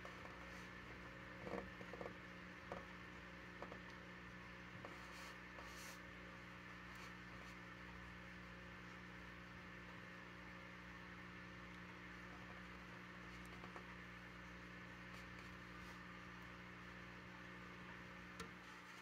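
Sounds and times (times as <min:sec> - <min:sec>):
faint hum and hiss: 0:00.0 - 0:19.0.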